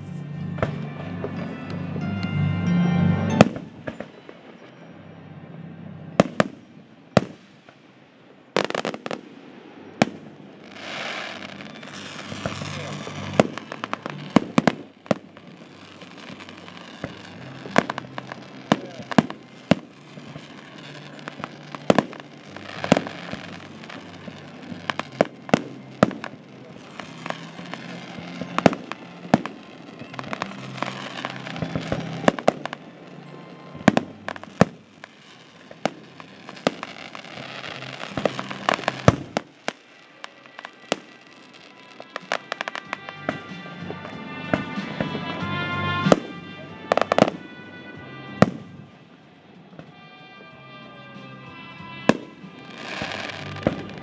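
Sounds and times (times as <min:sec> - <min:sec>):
fireworks bangs: 0:00.0 - 0:04.8, 0:06.2 - 0:54.0.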